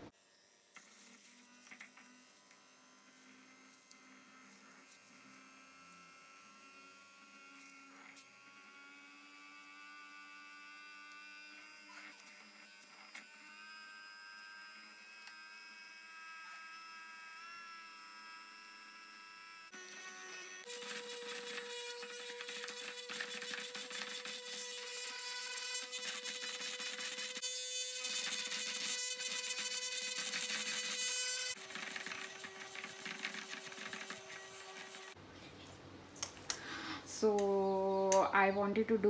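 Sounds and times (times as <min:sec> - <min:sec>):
electric hand blender humming: 0:00.0 - 0:35.2.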